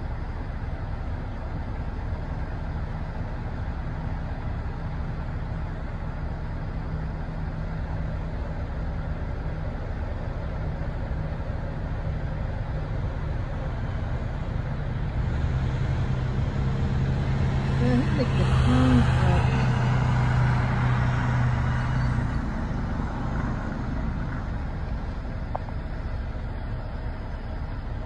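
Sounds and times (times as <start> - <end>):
motor vehicles rumbling: 0.0 - 28.0.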